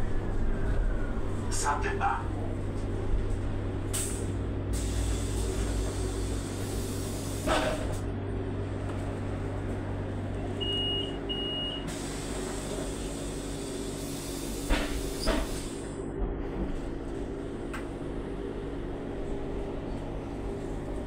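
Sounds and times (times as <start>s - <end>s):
bus electric hum: 0.0s - 21.0s.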